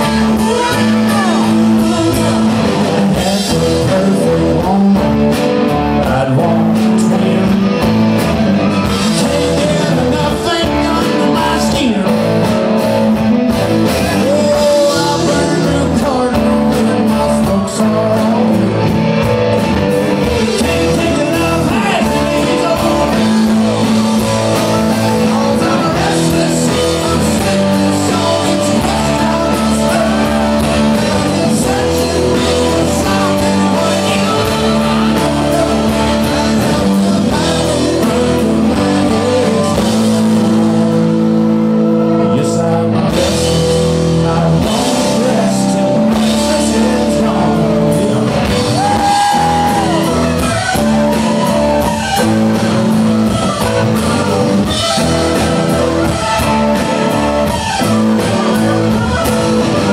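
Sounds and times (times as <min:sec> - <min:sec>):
person singing lead vocal: 0:00.0 - 0:13.0, 0:13.7 - 0:59.9
bass guitar: 0:00.0 - 0:59.9
drums: 0:00.0 - 0:59.9
electric guitars: 0:00.0 - 0:59.9.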